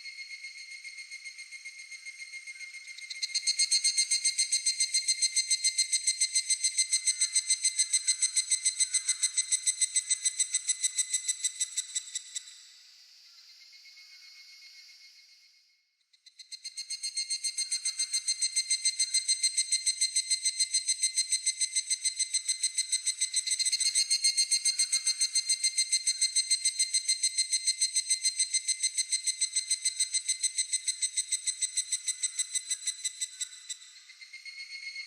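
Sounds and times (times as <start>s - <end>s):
cicada calling in ringing pulses: 0.0s - 15.5s, 16.2s - 35.0s.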